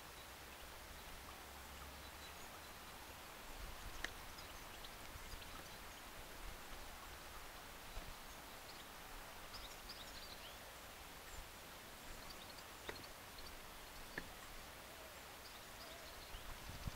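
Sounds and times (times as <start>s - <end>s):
faint background hiss: 0.0s - 16.9s.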